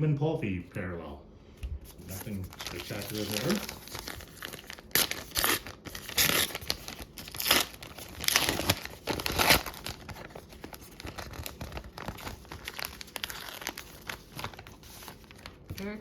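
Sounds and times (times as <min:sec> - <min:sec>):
wrapper crinkling: 0:02.0 - 0:16.0
wrapper ripping: 0:02.1 - 0:15.9.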